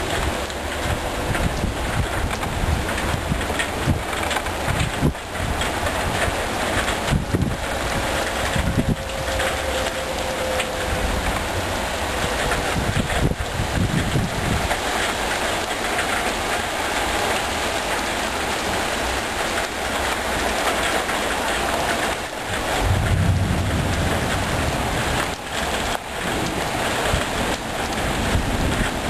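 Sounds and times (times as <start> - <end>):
low thunder rumble: 0.0 - 20.6, 21.4 - 29.0
heavy rain falling: 0.0 - 29.0.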